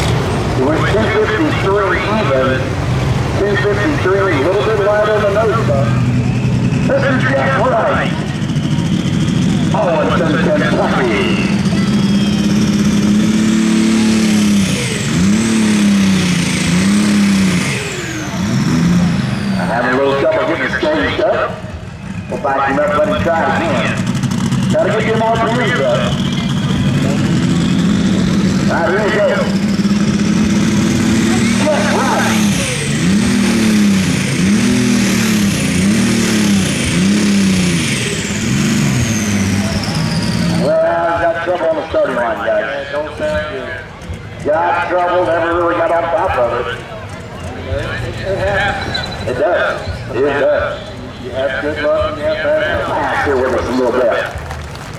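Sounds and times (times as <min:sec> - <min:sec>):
tractor engine at high revs: 0:00.0 - 0:54.9.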